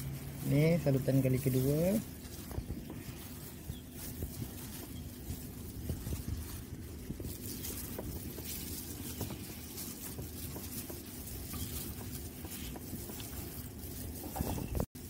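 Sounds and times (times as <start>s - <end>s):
gloved hands rustling in flour: 0.0s - 15.0s
low background rumble: 0.0s - 15.0s.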